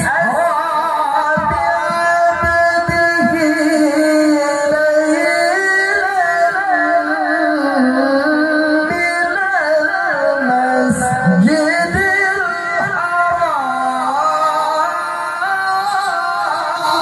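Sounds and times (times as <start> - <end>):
man reciting melodically through microphone: 0.0 - 17.0.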